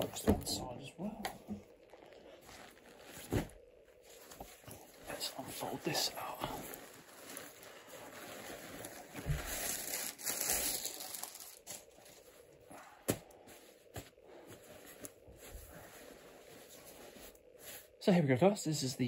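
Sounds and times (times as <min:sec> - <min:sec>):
nylon jacket rustling: 0:01.7 - 0:12.6, 0:13.4 - 0:18.1.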